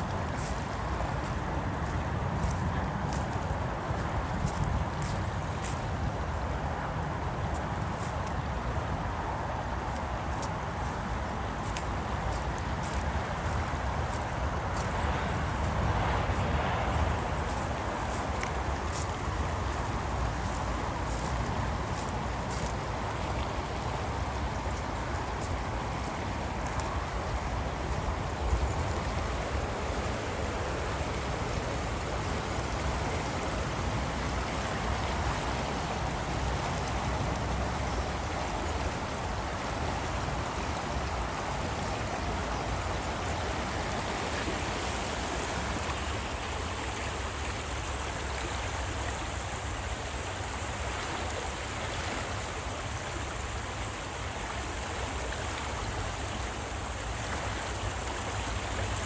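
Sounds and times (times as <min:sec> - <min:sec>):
flooding creek rushing: 0:00.0 - 0:59.0
deep water rumble: 0:08.5 - 0:59.0.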